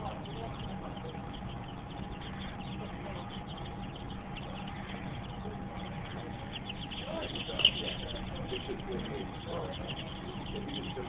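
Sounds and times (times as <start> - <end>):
baby chicks peeping: 0.0 - 11.0
steady low hum: 0.0 - 11.0.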